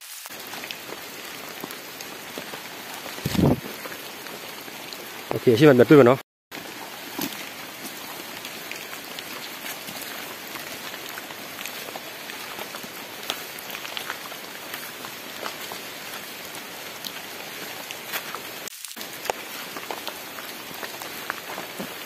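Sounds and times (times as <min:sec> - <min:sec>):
rain falling on leaf litter: 0:00.0 - 0:22.0.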